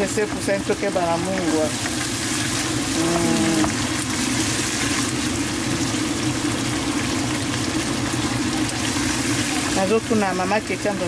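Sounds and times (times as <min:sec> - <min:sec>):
coffee maker gurgling and hissing: 0:00.0 - 0:11.0
sauce simmering in a pan: 0:00.0 - 0:11.0.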